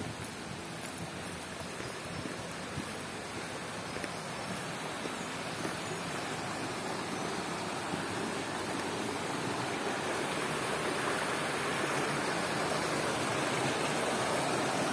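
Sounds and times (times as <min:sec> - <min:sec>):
stream rushing over rocks: 0:00.0 - 0:14.9.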